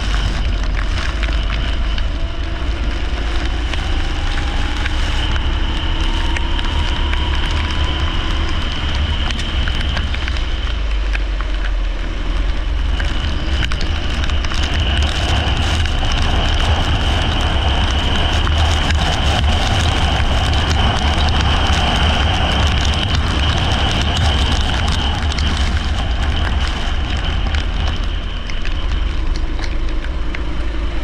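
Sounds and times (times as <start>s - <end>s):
kart engine running: 0.0s - 31.0s
low wind rumble: 0.0s - 31.0s.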